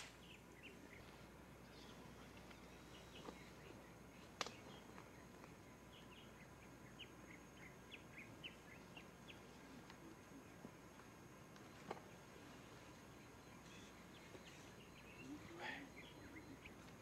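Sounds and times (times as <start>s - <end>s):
faint bird chirps: 0.0s - 10.6s, 11.6s - 17.0s.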